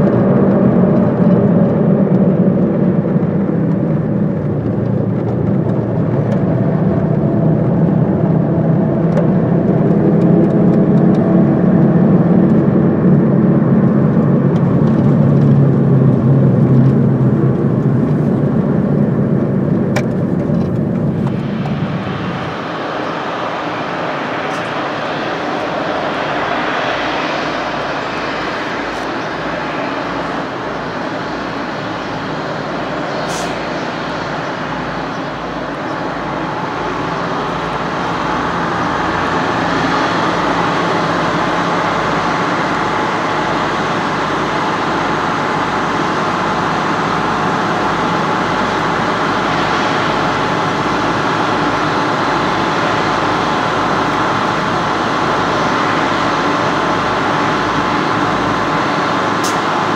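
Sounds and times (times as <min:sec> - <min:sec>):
higher steady whine tones: 0:00.0 - 0:59.9
jet aircraft whine and rumble: 0:00.0 - 0:59.9.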